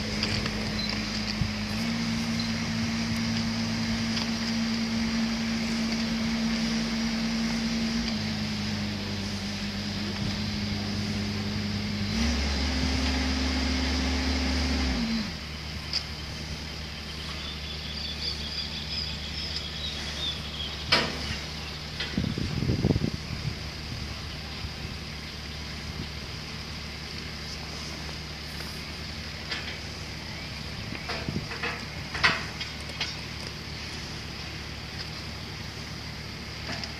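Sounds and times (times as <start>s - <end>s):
engine running: 0.0s - 36.9s.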